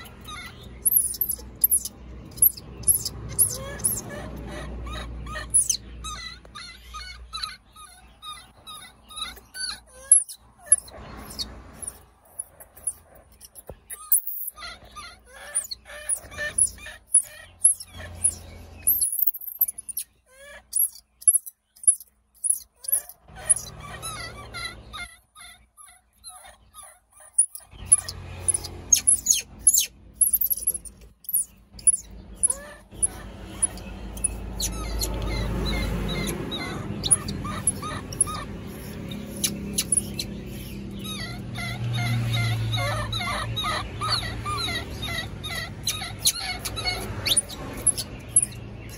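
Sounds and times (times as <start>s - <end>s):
baby monkeys squealing: 0.0s - 48.9s.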